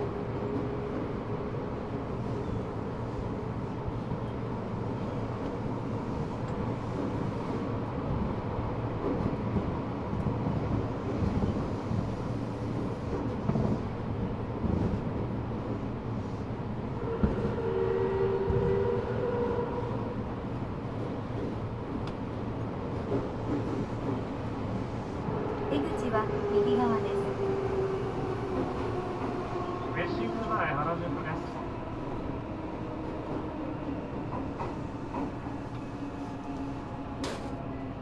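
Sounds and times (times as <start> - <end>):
rumble of train wheels on track: 0.0 - 38.0.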